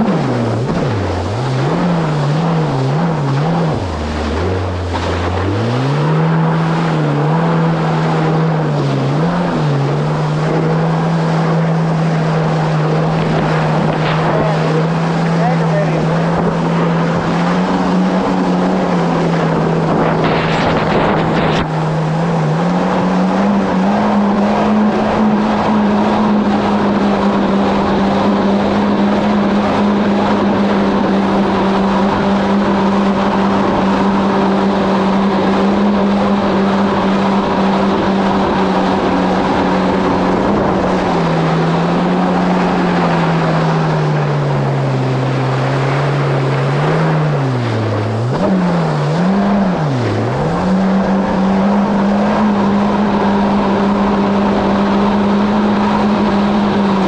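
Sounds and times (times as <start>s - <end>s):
jet ski engine running: 0.0s - 57.0s
water rushing under hull: 0.0s - 57.0s.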